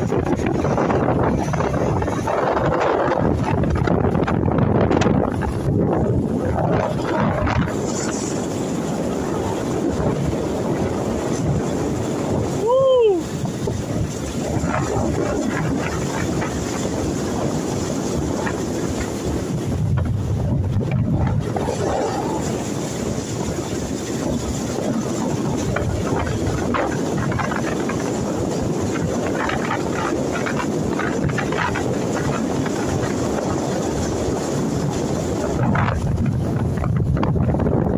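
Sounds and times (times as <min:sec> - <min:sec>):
motorboat engine: 0:00.0 - 0:37.9
wind buffeting microphone: 0:00.0 - 0:37.9.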